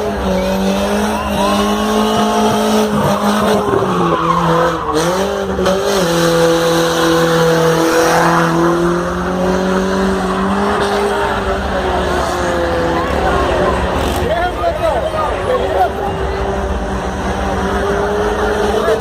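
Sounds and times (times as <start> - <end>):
car engine revving hard: 0.0 - 14.4, 16.1 - 19.0.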